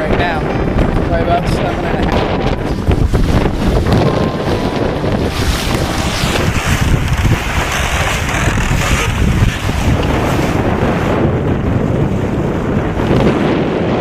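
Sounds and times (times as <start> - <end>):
water rushing along hulls: 0.0 - 14.0
wind buffeting microphone: 0.0 - 14.0.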